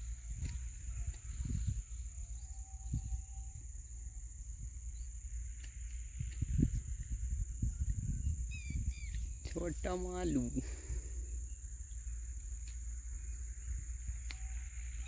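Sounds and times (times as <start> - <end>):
insects droning: 0.0 - 15.0
low rumble on microphone: 0.0 - 15.0.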